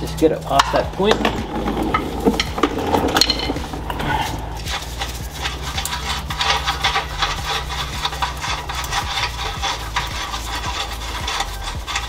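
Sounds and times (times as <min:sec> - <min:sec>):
hand tools clicking on metal: 0:00.0 - 0:12.0.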